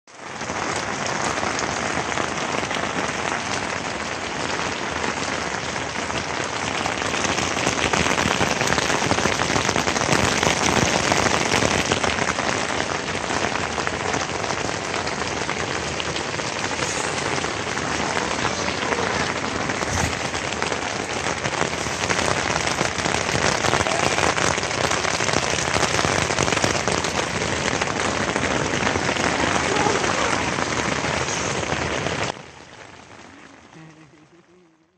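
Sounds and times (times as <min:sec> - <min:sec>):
rain on tent fabric: 0:00.0 - 0:34.9.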